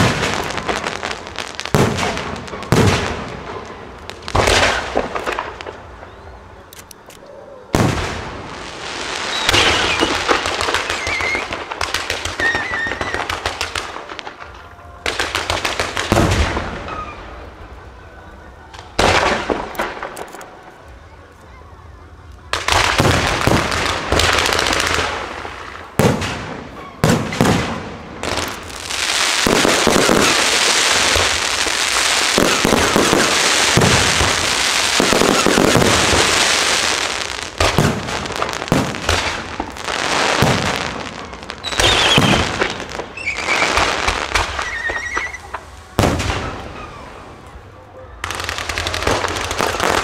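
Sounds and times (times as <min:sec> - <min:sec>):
firework bangs: 0:00.0 - 0:07.1, 0:07.7 - 0:21.2, 0:22.0 - 0:50.0
firework crackling: 0:00.0 - 0:50.0
high gliding firework tones: 0:07.7 - 0:50.0.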